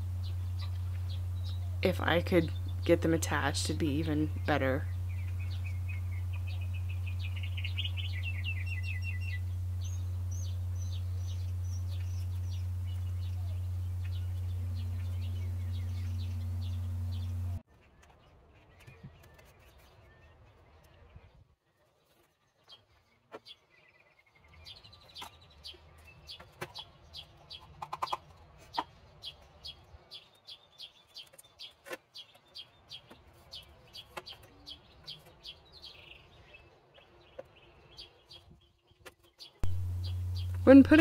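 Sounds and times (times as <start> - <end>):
bird chirping: 0.0 - 20.8, 22.2 - 41.0.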